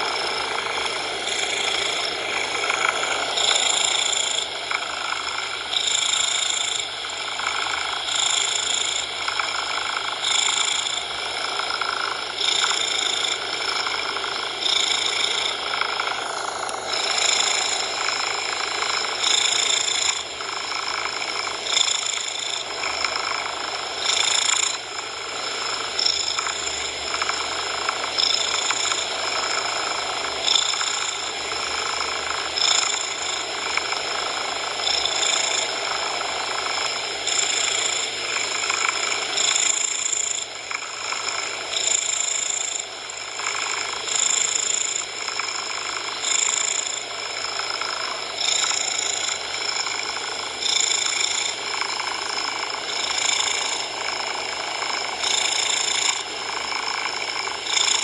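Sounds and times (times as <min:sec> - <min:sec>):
cat purring: 0:00.0 - 0:58.0
steady coloured noise: 0:00.0 - 0:58.0.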